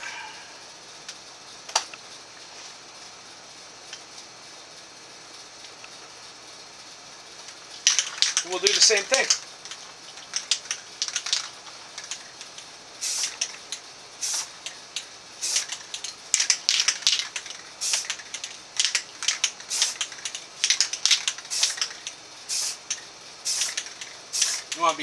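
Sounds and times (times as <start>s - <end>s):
spray paint can hissing: 0.1s - 25.0s.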